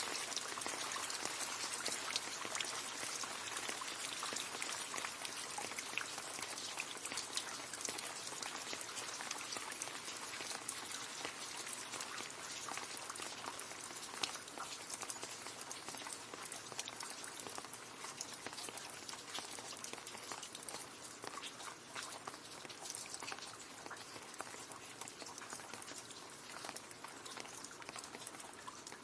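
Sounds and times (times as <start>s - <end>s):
rain splashing into a puddle: 0.0s - 29.0s.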